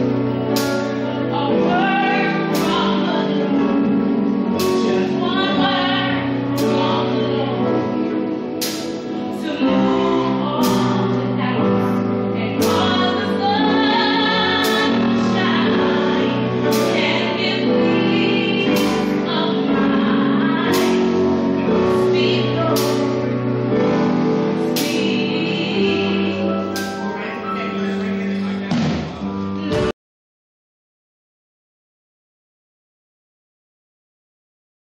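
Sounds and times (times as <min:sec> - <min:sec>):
choir singing gospel: 0:00.0 - 0:29.9.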